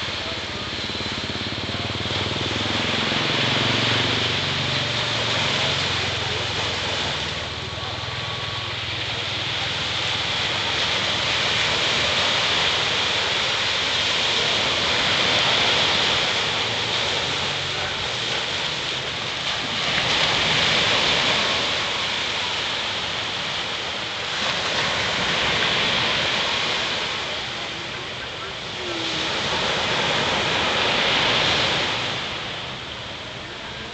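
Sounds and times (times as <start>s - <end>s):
ocean surf breaking on shore: 0.0s - 33.9s.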